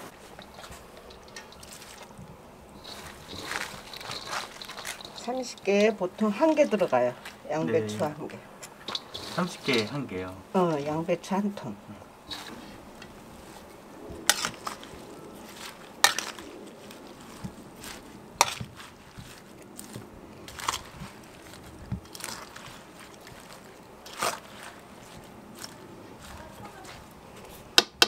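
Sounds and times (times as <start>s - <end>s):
crunching and scraping: 0.0s - 27.7s.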